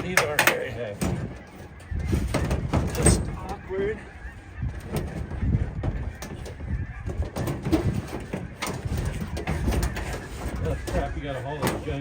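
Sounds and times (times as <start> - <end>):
metal dryer knocking and clunking: 0.0 - 3.6, 4.8 - 12.0.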